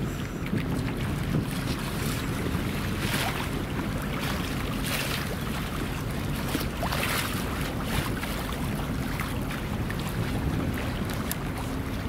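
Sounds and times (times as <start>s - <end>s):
water lapping against quay: 0.0s - 12.0s
wind buffeting microphone: 0.0s - 12.0s.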